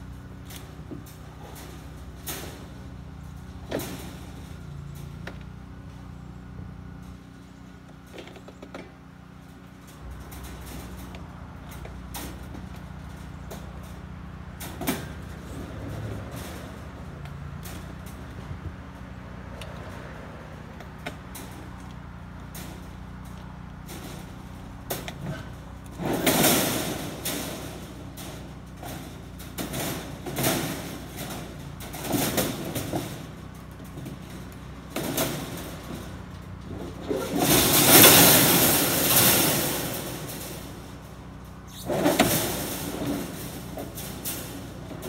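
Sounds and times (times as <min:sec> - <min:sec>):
steel panels clanking and scraping: 0:00.0 - 0:45.0.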